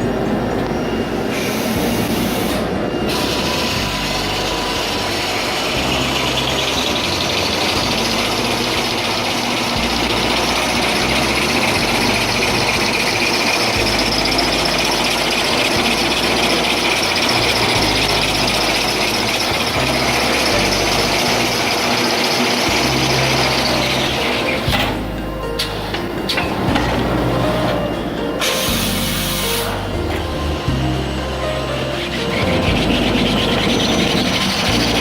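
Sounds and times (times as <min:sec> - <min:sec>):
machine clattering and hissing: 0:00.0 - 0:35.0.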